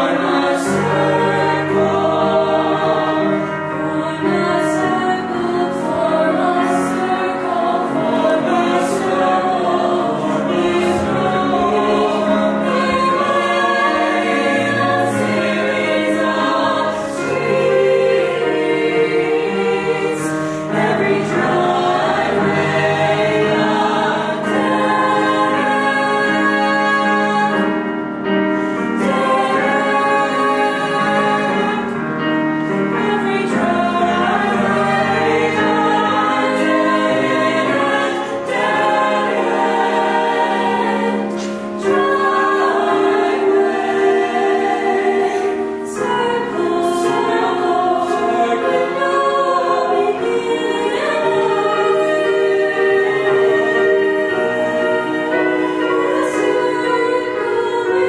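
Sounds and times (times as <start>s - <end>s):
youth choir singing in parts: 0.0s - 58.0s.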